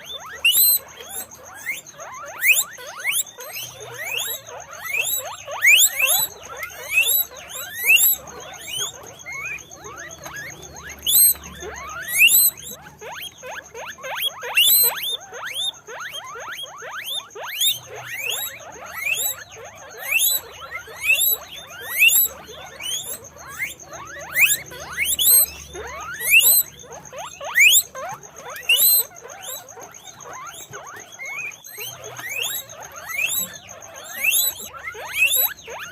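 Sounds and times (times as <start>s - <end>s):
guinea pigs squealing: 0.0s - 35.9s.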